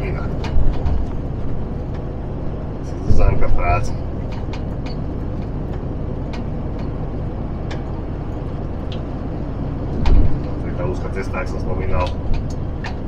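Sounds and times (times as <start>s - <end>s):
cab ticks and rattles: 0.0s - 13.0s
truck engine and road rumble: 0.0s - 13.0s.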